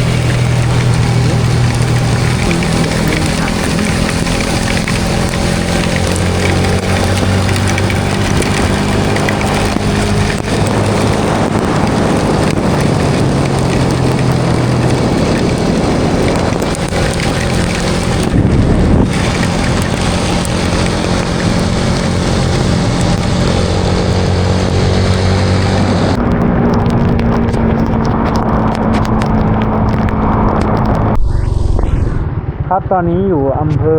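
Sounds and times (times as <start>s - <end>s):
vehicle engine cruising: 0.0s - 33.9s
wind rush on microphone: 0.0s - 33.9s.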